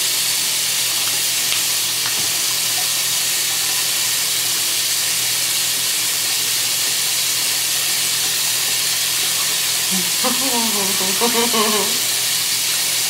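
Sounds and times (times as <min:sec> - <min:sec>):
tap water running into sink: 0:00.3 - 0:13.0.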